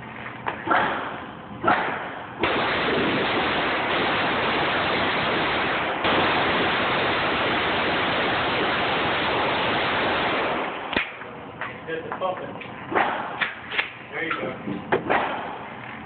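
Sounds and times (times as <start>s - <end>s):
steady rushing noise: 1.9s - 16.0s.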